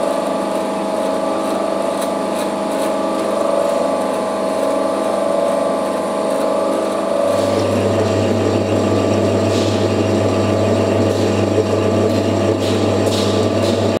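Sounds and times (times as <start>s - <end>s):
lathe mechanical rattle: 0.0s - 14.0s.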